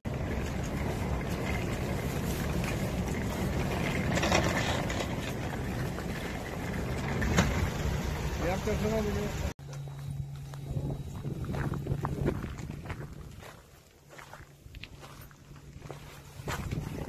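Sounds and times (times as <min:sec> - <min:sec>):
stroller wheels rolling on pavement: 0:00.1 - 0:17.0.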